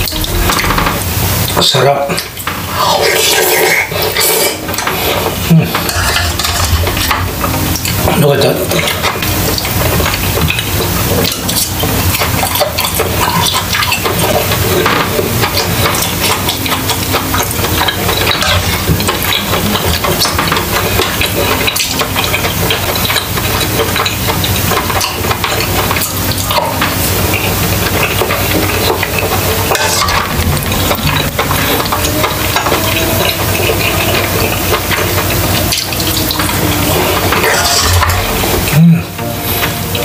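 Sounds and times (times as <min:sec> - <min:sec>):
close eating sounds: 0:00.0 - 0:40.0
meat sizzling on a grill: 0:00.0 - 0:40.0
metal spoon scraping a pan: 0:02.2 - 0:39.8.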